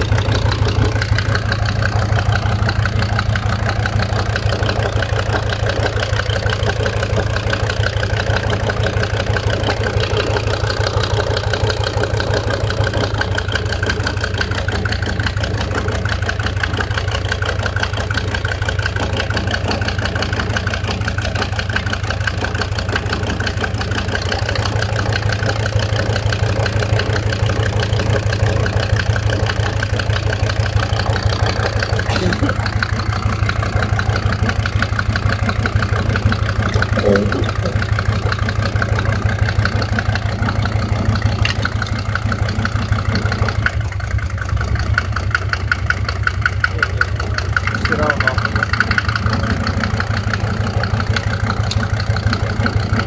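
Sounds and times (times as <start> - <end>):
engine idling: 0.0 - 53.0
rapid even engine knocking: 0.0 - 53.0.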